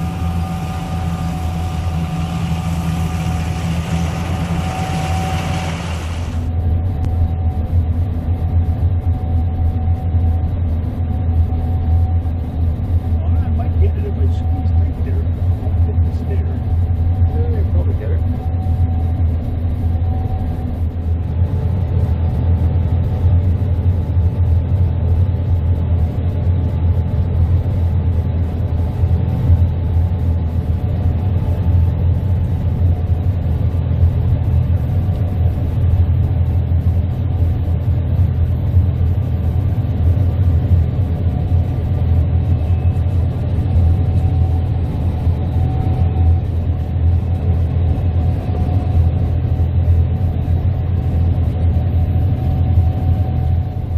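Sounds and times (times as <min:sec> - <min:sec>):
combine harvester droning: 0:00.0 - 0:53.9.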